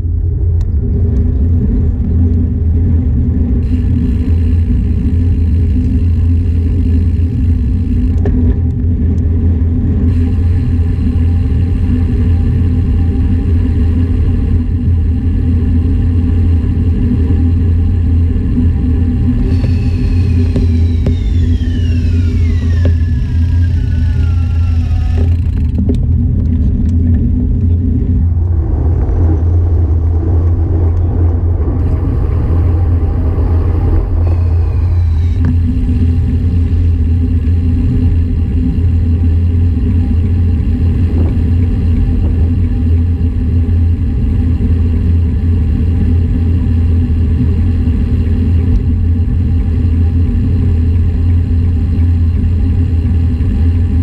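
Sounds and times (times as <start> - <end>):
wind buffeting: 0.0 - 51.8
bicycle tyre noise on asphalt: 0.0 - 54.0.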